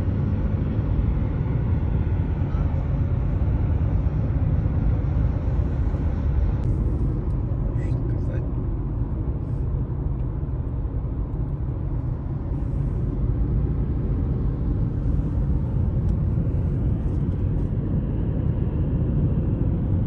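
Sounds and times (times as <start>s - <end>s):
car cabin road rumble: 0.0s - 20.0s.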